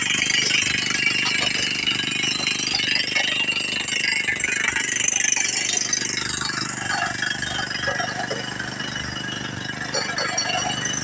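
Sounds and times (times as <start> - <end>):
drilling rig mechanical din: 0.0 - 11.0
percussive drilling rattle: 0.0 - 11.0.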